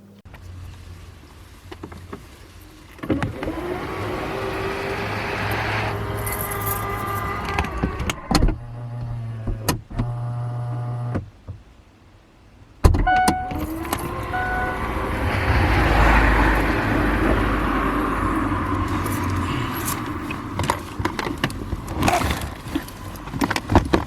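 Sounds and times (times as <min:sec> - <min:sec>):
car engine running: 0:00.3 - 0:08.7, 0:13.1 - 0:24.0.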